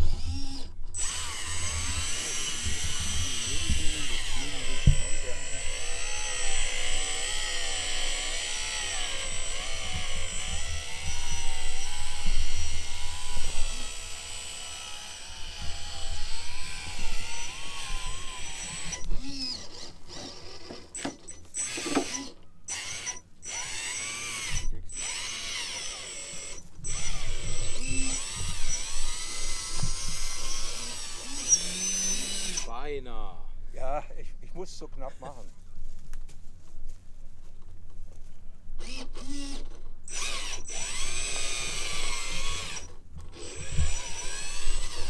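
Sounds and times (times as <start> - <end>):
electric motor and gearbox whining: 0.0 - 32.8, 38.8 - 45.0.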